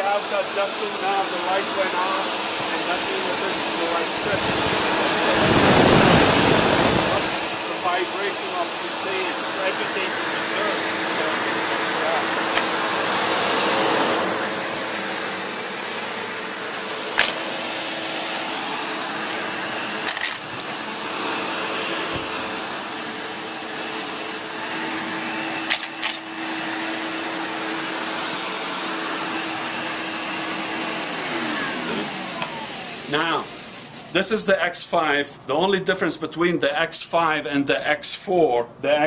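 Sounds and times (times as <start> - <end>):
vacuum cleaner running over carpet: 0.0 - 34.6.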